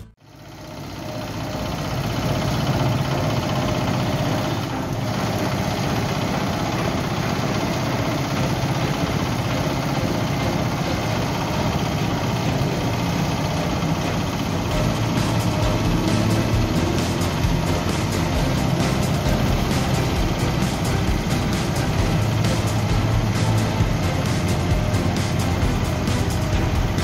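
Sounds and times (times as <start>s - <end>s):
asphalt roller engine running: 0.0s - 27.0s.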